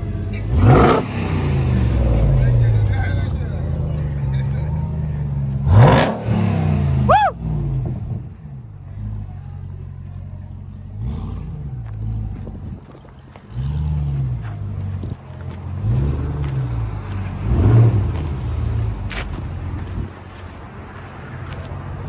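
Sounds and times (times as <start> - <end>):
engine revving over idle: 0.0 - 20.4.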